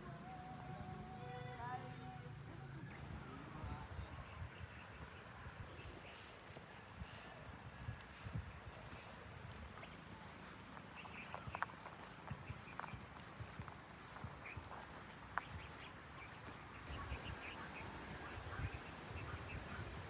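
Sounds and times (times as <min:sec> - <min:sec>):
high steady insect tone: 0:00.0 - 0:20.0
insects trilling: 0:00.0 - 0:20.0.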